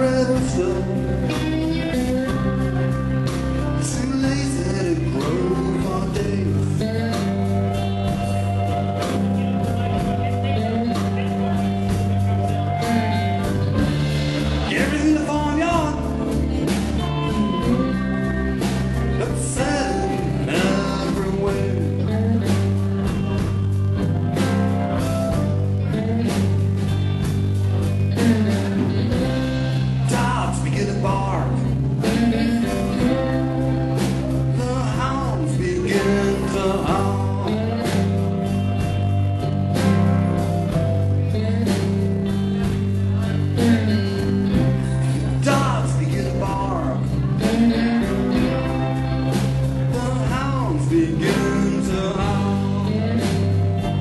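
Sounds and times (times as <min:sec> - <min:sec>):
person singing: 0:00.0 - 0:27.1, 0:28.1 - 0:54.0
bass guitar: 0:00.0 - 0:54.0
drums: 0:00.0 - 0:54.0
electric guitar: 0:00.0 - 0:54.0.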